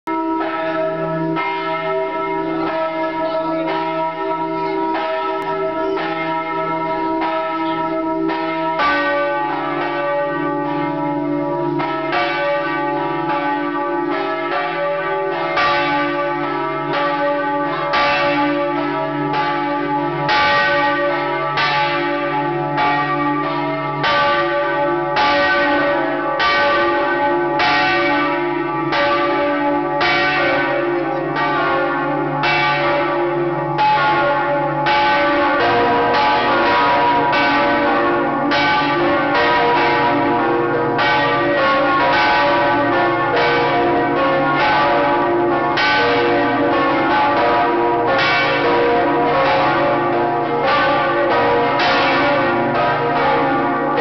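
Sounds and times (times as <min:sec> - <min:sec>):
large church bells ringing: 0:00.0 - 0:54.0.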